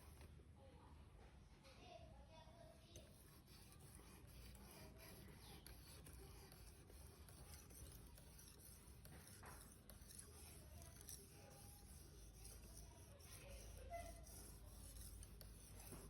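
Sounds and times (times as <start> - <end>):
faint scraping and rubbing: 2.6 - 16.0.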